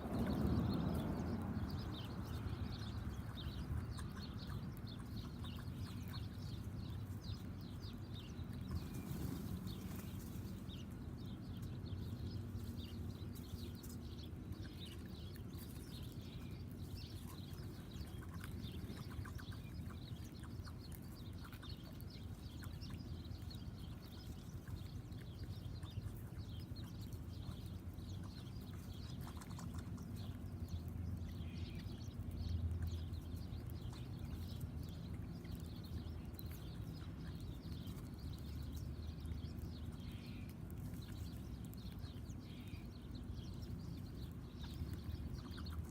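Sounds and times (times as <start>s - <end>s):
small birds chirping: 0.0s - 45.9s
steady low rumble: 0.0s - 45.9s.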